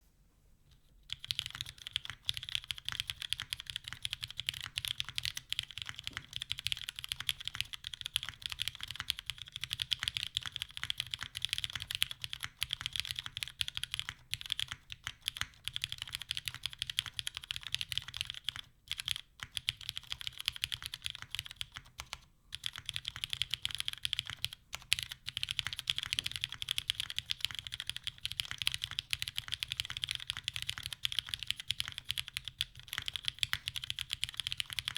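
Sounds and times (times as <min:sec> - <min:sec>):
mechanical keyboard typing: 0:01.1 - 0:34.9.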